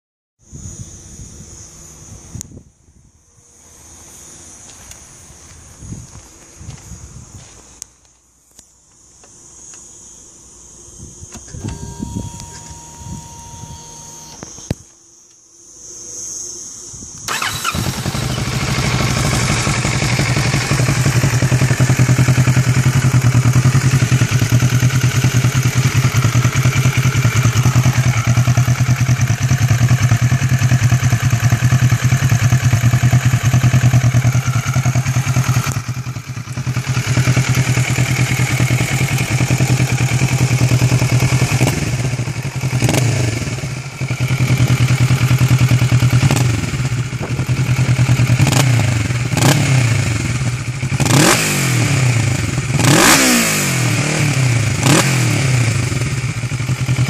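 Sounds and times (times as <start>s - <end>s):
motorcycle engine idling and revving: 4.2s - 57.0s.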